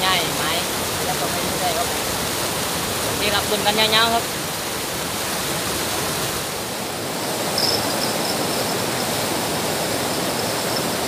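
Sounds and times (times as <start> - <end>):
water rushing over a weir: 0.0 - 11.0.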